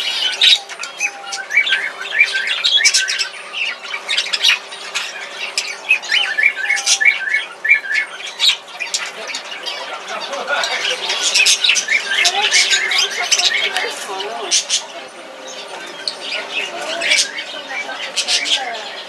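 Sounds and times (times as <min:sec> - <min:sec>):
short evenly spaced bird calls: 0:00.0 - 0:19.0
small cage birds chirping: 0:00.0 - 0:19.0.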